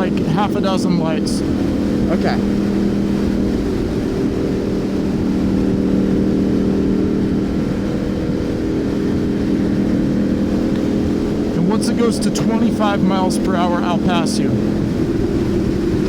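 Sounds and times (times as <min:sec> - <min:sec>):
motorcycle engine cruising: 0:00.0 - 0:16.0
wind and road noise: 0:00.0 - 0:16.0.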